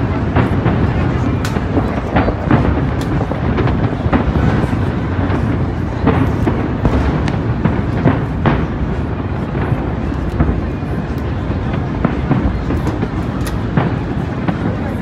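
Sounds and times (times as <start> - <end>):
fireworks bangs and crackles: 0.0 - 15.0
fireworks rumble: 0.0 - 15.0.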